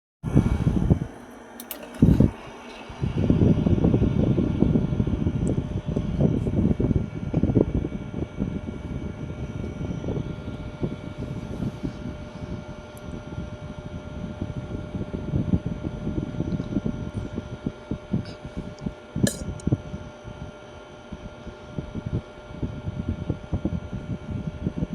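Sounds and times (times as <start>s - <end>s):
fan air buffeting microphone: 0.2s - 24.9s.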